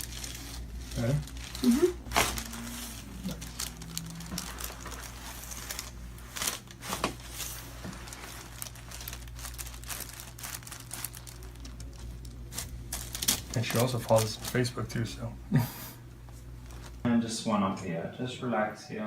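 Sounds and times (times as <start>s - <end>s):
crinkling and rustling with clicks: 0.0s - 15.1s, 16.2s - 17.0s
steady low hum: 0.0s - 19.0s.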